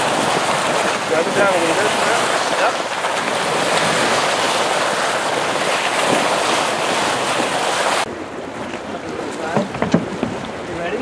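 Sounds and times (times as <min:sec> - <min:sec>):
water rushing along hull: 0:00.0 - 0:11.0
wind blowing across microphone: 0:00.0 - 0:11.0.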